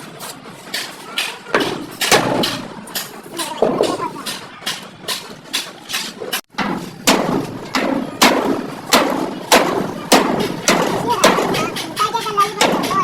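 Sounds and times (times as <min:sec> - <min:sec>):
hammer striking sheet metal: 0:00.7 - 0:13.0.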